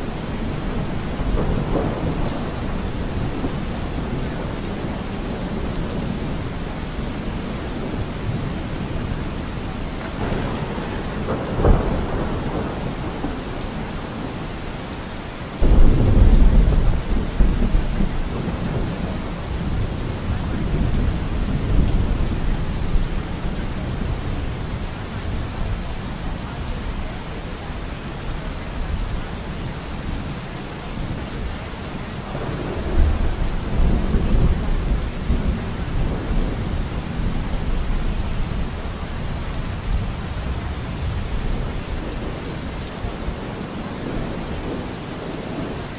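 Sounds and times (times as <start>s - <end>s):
rolling thunder: 0.0s - 7.2s, 9.9s - 14.5s, 15.6s - 27.7s, 32.1s - 45.0s
heavy rain: 0.0s - 45.9s.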